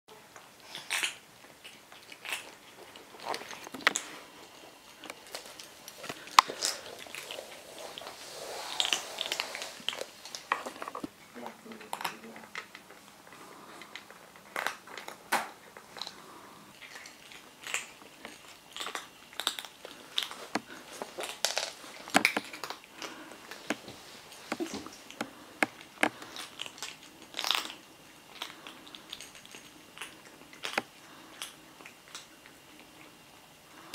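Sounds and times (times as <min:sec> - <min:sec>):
kittens crunching dry kibble: 0:00.2 - 0:33.9.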